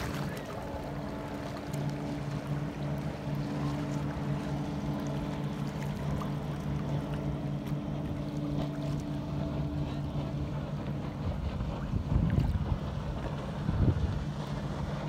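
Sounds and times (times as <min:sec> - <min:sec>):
outboard motor droning: 0:00.0 - 0:15.0
water lapping and splashing: 0:00.0 - 0:15.0.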